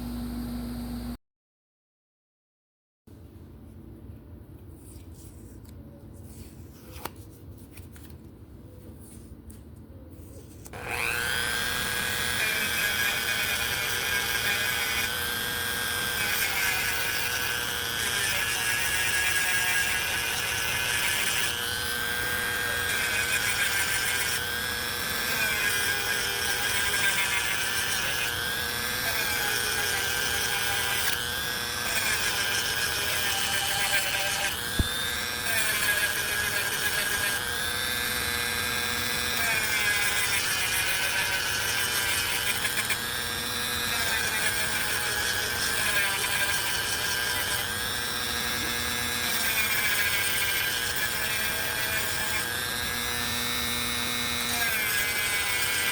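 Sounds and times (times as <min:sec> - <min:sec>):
rotary tool sanding wood: 0:10.6 - 0:55.9.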